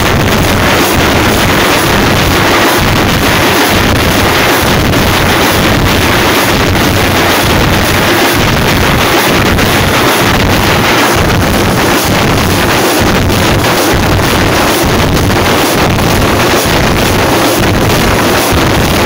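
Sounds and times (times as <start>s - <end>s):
distorted loud group drumming: 0.0s - 19.0s.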